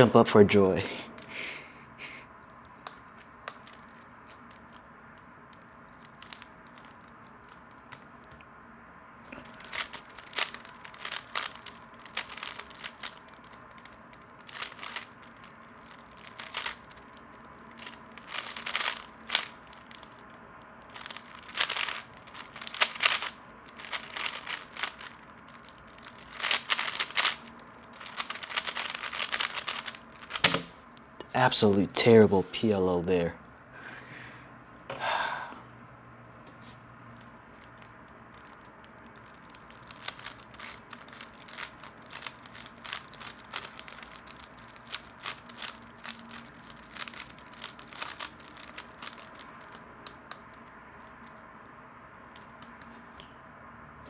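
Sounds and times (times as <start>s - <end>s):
rapid plastic clicking of cube: 1.2s - 1.6s, 2.4s - 8.5s, 9.3s - 30.8s, 36.6s - 52.9s.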